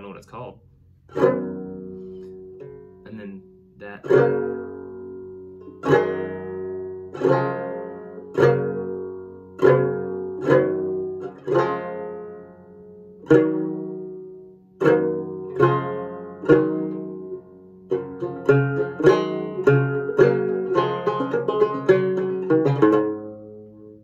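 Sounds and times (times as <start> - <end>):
banjo chords ringing: 0.0 - 24.0.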